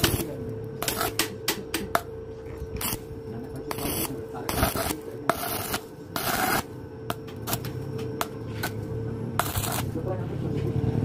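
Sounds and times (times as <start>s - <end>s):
welding arc crackling: 0.0s - 10.2s
steady hum: 0.0s - 11.0s.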